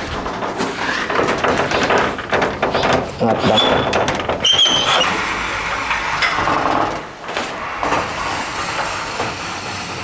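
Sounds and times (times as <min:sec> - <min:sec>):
sliding door rolling along rail: 0:00.0 - 0:10.0.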